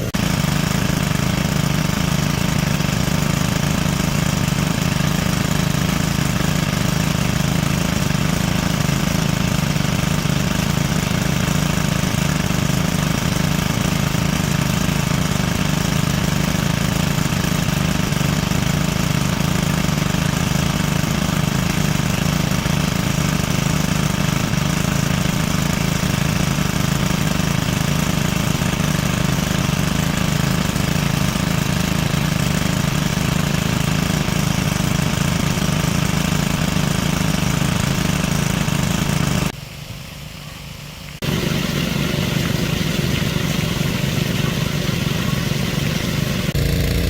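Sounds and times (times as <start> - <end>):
small engine running: 0.0 - 39.6, 41.2 - 47.0.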